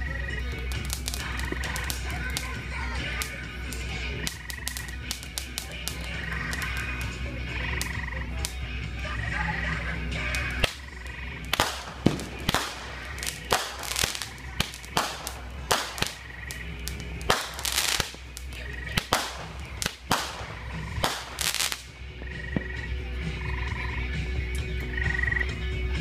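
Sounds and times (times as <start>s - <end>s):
fireworks banging: 0.0s - 22.8s.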